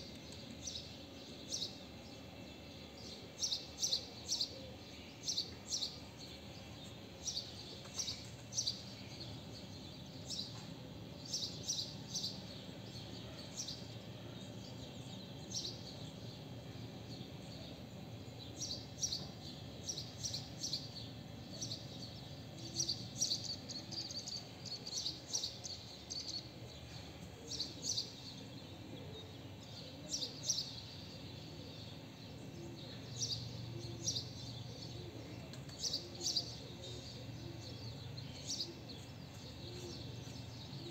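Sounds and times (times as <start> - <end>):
small birds chirping: 0.0 - 40.9
steady low background noise: 0.0 - 40.9.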